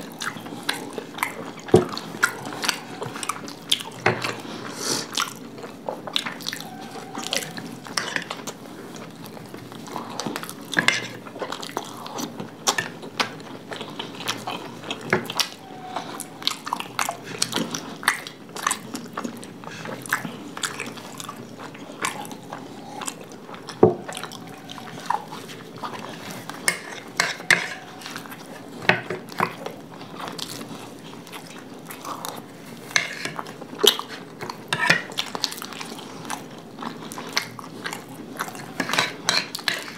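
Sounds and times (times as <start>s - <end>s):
wet smacking chewing: 0.0s - 39.9s.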